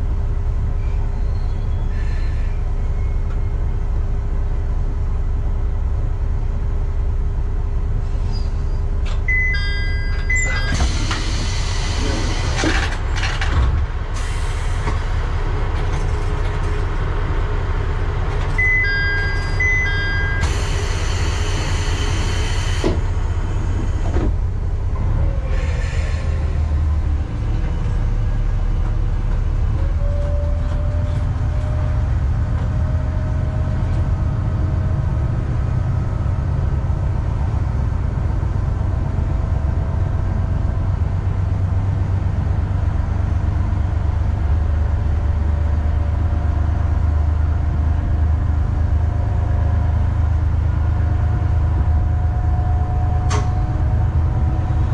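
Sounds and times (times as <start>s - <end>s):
diesel railcar engine: 0.0s - 54.9s.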